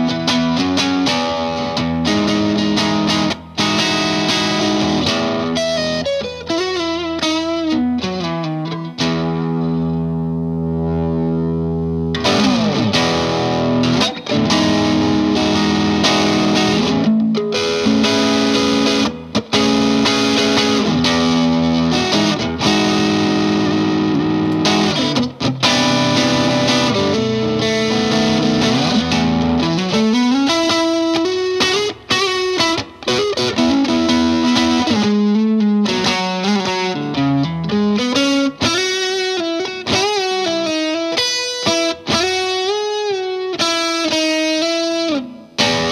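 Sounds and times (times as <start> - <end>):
overdriven electric guitar: 0.0 - 45.9.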